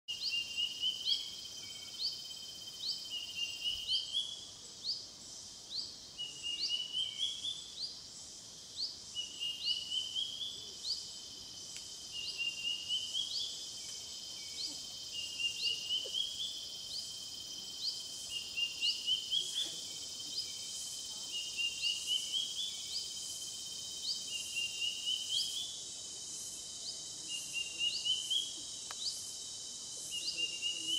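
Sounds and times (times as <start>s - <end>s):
high insect trill: 0.1s - 30.9s.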